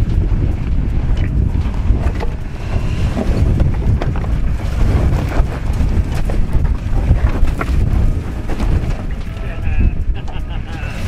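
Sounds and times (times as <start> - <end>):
vehicle engine low rumble: 0.0 - 11.0
wind buffeting microphone: 0.0 - 11.0.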